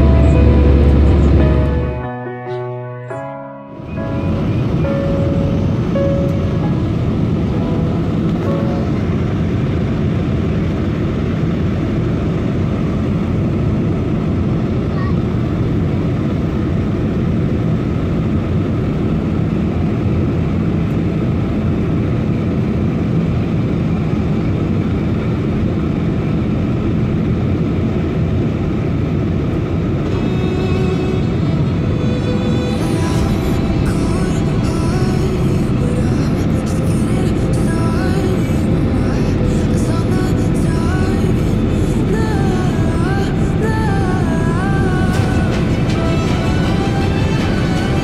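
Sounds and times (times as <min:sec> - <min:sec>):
jet airliner cabin rumble: 0:00.0 - 0:02.2, 0:03.7 - 0:48.0.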